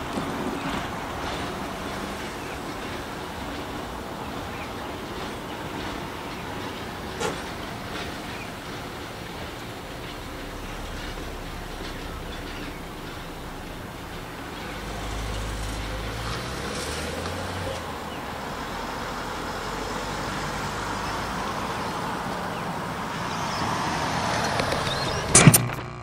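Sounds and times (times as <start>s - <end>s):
distant train carriages rumbling: 0.0s - 25.4s.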